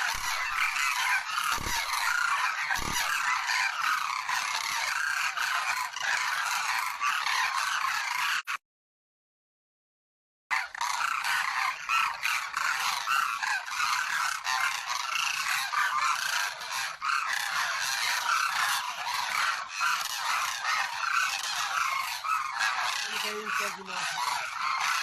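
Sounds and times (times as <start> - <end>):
cranes calling: 0.0 - 8.5, 10.5 - 25.0.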